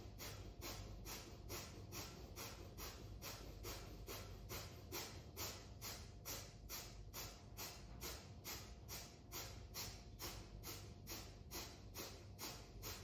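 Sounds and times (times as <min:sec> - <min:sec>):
rapid rhythmic nose breathing: 0:00.0 - 0:13.0.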